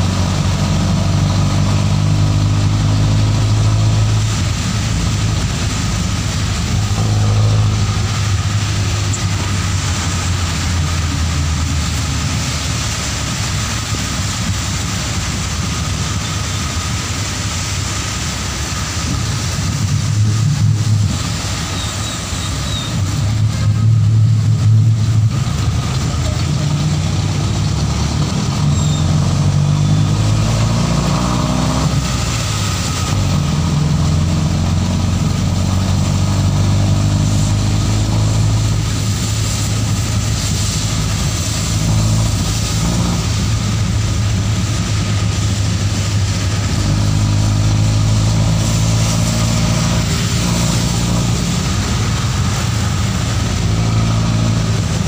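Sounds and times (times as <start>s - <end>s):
tyres hissing on wet road: 0.0s - 55.0s
vehicle engine running: 0.0s - 55.0s.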